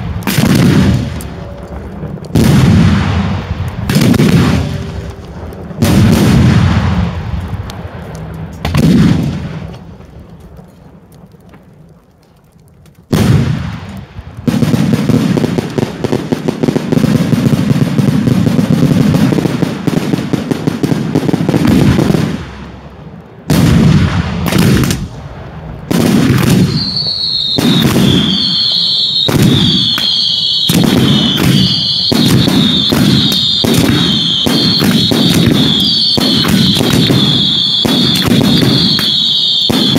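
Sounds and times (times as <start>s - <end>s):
fireworks bangs: 0.0s - 11.8s, 13.0s - 39.9s
whistling fireworks: 0.0s - 12.4s, 13.0s - 22.7s, 23.5s - 39.9s
continuous barrage of explosions: 0.0s - 39.9s.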